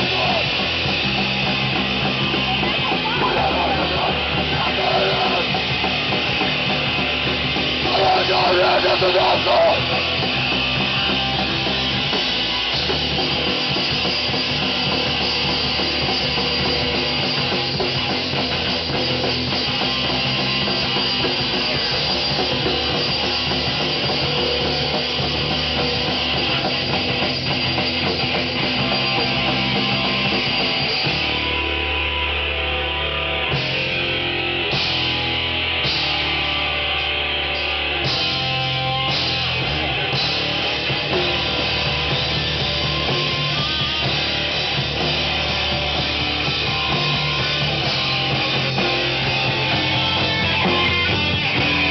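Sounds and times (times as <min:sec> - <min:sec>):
distorted electric guitars: 0:00.0 - 0:51.9
drum kit: 0:00.0 - 0:51.9.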